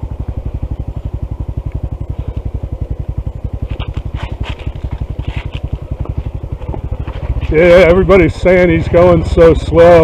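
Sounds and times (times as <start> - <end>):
motorcycle engine chugging: 0.0 - 10.0.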